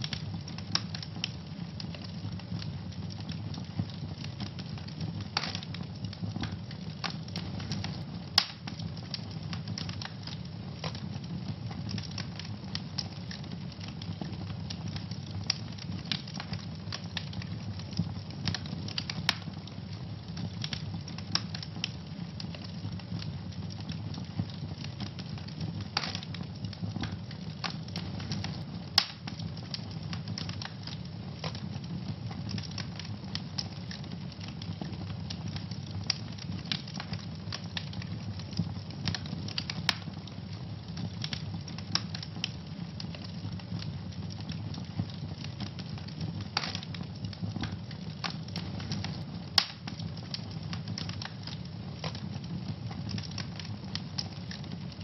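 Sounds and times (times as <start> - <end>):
fire pops: 0.0 - 55.0
wood fire crackling: 0.0 - 55.0.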